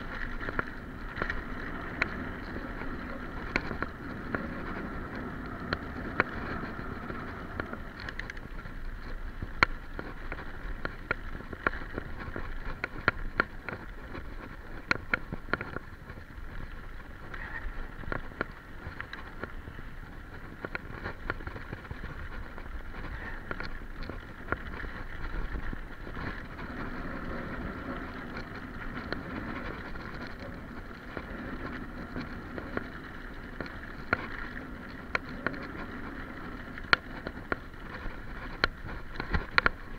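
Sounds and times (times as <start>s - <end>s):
bike rattling over bumps: 0.0s - 39.9s
tyres rolling over dirt: 0.0s - 39.9s
wind on microphone: 0.0s - 39.9s.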